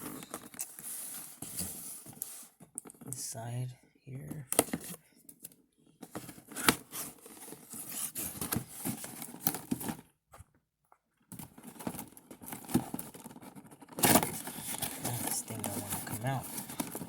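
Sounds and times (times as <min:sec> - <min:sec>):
packaging rustling and crinkling: 0:00.0 - 0:03.2, 0:04.5 - 0:10.1, 0:11.3 - 0:17.0.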